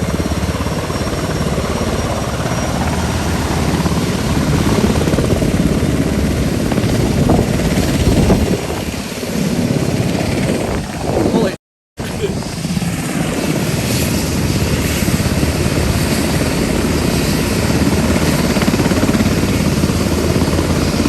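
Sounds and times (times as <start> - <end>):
helicopter rotor chopping: 0.0 - 21.0.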